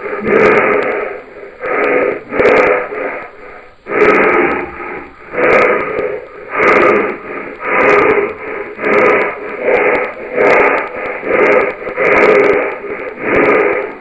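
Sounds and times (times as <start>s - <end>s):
heavy wheezy breathing: 0.0s - 14.0s.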